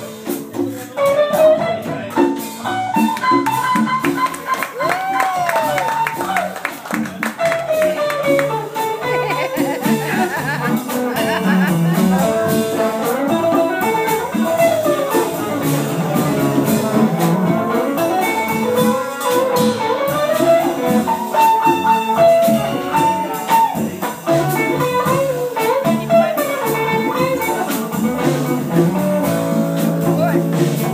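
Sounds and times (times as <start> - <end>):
live guitar music with beat: 0.0 - 30.9.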